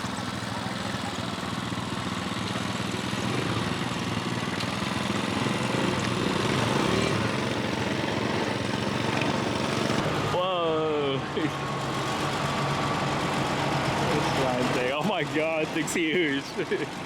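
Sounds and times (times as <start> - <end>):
large vehicle engine running: 0.0 - 17.0.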